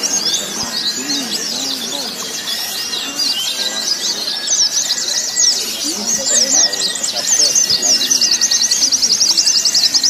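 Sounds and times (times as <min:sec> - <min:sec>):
chorus of birds twittering: 0:00.0 - 0:10.0.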